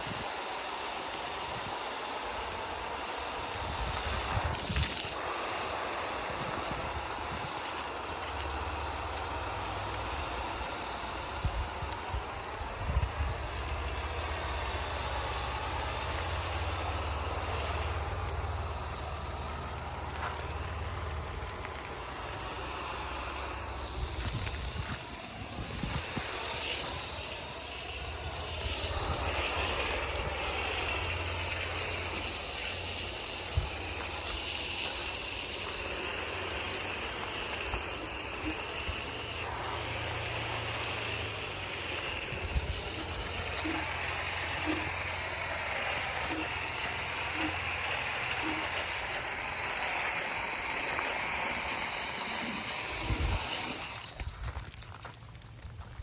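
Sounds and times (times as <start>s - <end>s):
steady hissing noise: 0.0s - 56.0s.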